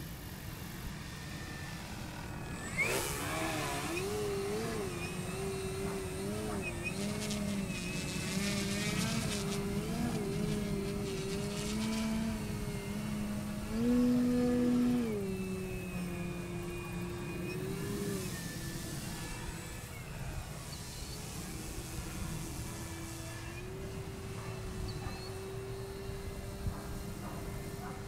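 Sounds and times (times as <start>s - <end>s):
model plane motor drone: 0.0s - 28.0s.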